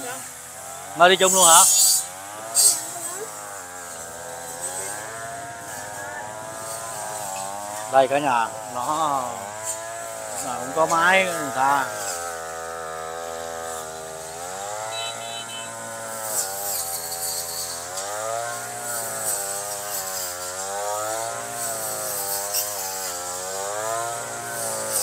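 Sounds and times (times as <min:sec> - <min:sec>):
brush cutter engine revving: 0:00.0 - 0:25.0.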